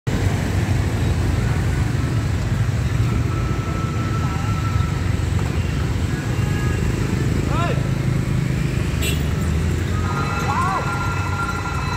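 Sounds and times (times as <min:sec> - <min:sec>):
motorbike and traffic rumble: 0:00.1 - 0:11.9.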